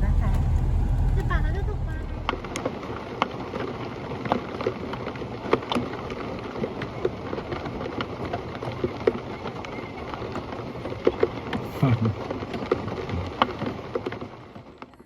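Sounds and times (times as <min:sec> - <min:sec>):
steady rain: 0:00.0 - 0:14.9
raindrops ticking on hard surface: 0:00.0 - 0:15.0.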